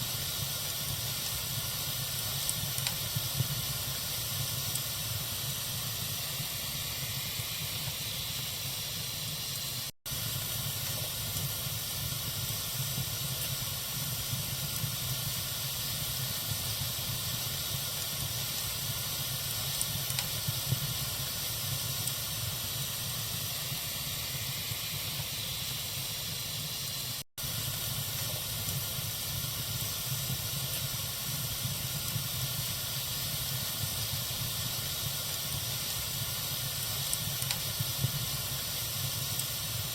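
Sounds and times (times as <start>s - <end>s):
campfire hissing: 0.0s - 39.9s
faint fire crackles: 0.0s - 39.9s.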